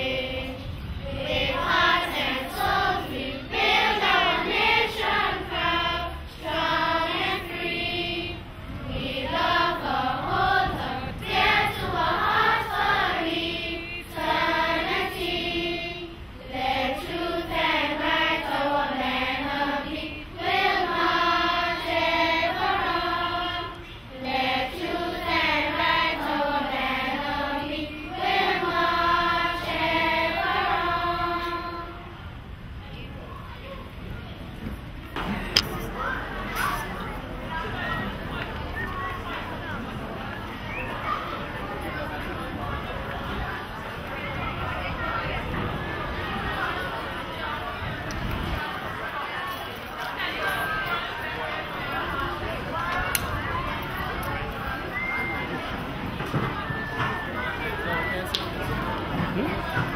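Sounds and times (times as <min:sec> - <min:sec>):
children's choir singing: 0:00.0 - 0:32.3, 0:35.2 - 0:59.9.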